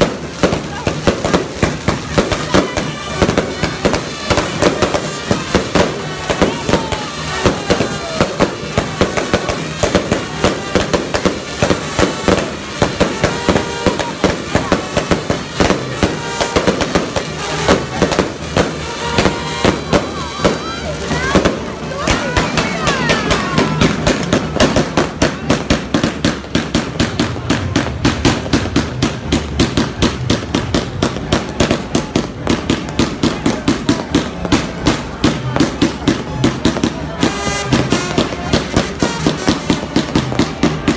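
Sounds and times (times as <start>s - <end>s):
firecrackers banging: 0.0s - 40.9s.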